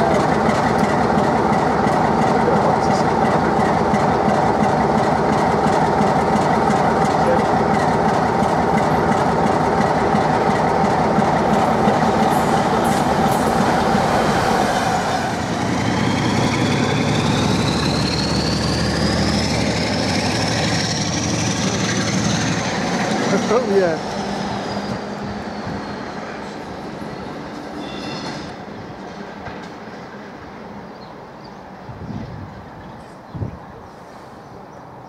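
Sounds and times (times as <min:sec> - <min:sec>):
diesel locomotive engine drone: 0:00.0 - 0:35.0.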